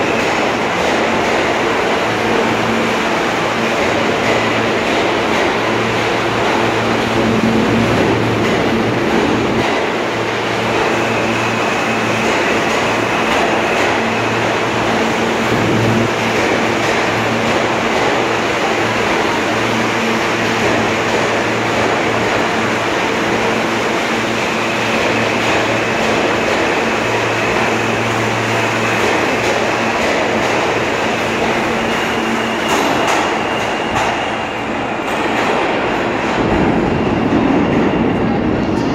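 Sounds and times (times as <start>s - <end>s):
subway train rumbling past: 0.0s - 38.9s
high steady whine: 1.6s - 38.9s.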